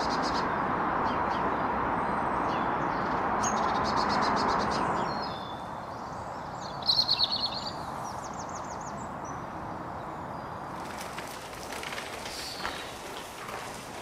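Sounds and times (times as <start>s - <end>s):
small songbirds singing: 0.0s - 13.6s.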